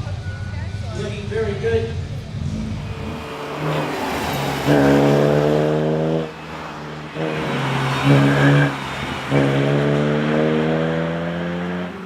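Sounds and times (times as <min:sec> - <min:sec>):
rally car engine revving: 0:01.5 - 0:12.0.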